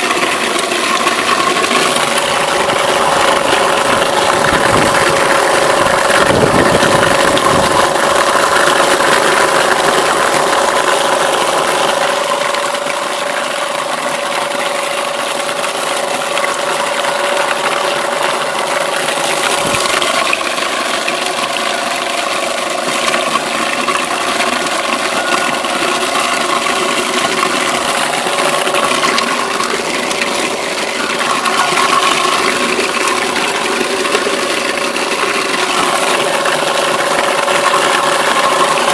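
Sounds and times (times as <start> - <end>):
electric motor humming: 0.0 - 38.9.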